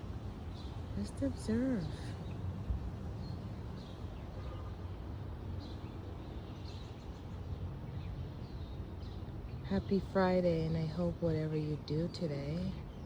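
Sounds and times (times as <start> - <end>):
low rumble of breeze: 0.0 - 13.0.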